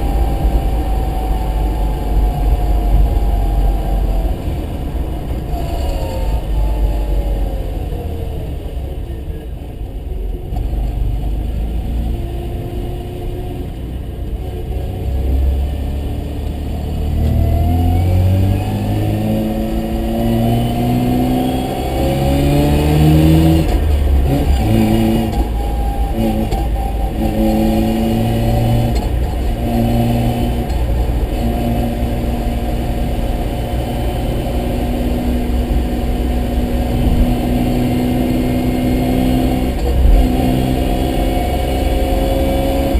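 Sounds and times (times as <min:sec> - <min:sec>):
rotary engine accelerating: 0:00.0 - 0:42.9.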